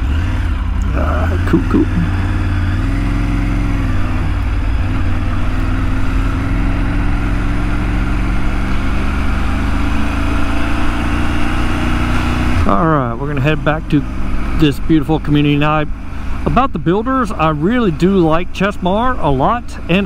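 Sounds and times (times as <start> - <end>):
motorcycle engine pulling away: 0.0 - 18.4.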